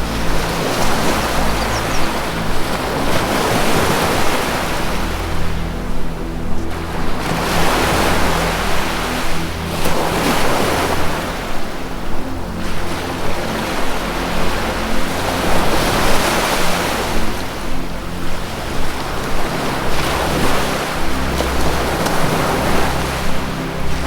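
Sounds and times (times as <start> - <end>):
ocean surf washing ashore: 0.0 - 24.0
soft low music tones: 0.0 - 24.0.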